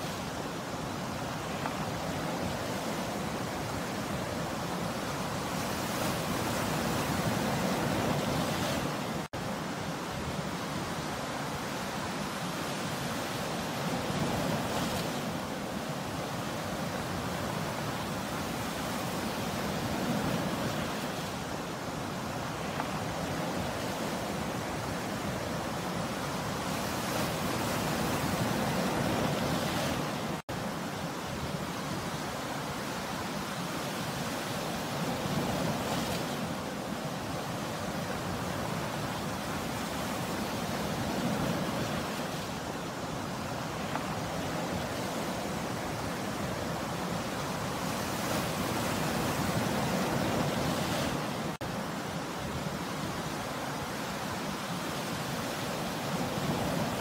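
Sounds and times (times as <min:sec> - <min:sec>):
sea surf breaking on a beach: 0:00.0 - 0:57.0.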